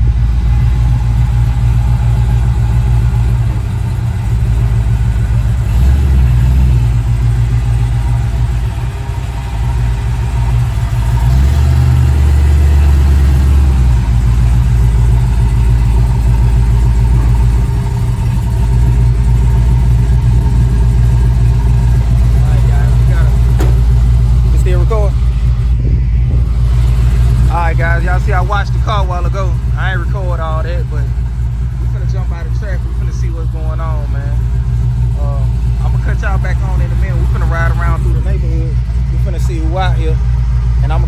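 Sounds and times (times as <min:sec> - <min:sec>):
car engine rumbling: 0:00.0 - 0:41.0.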